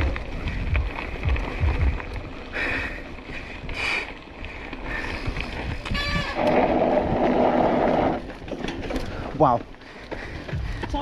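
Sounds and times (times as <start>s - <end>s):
mountain bike rumbling and rattling: 0.0s - 11.0s
wind buffeting microphone: 0.0s - 11.0s.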